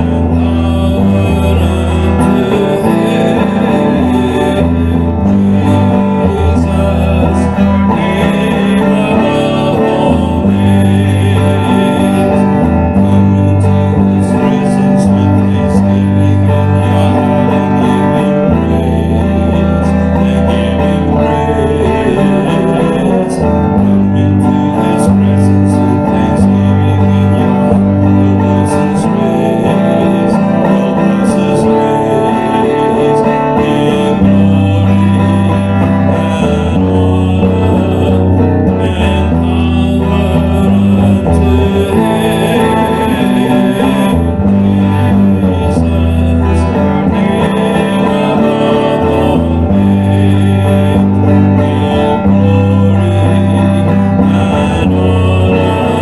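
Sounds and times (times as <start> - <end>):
electric guitar melody: 0.0 - 56.0.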